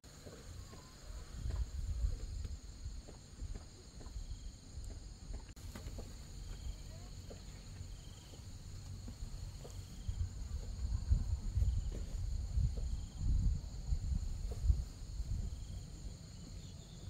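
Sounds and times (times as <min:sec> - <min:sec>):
insect chorus buzzing: 0:00.1 - 0:17.0.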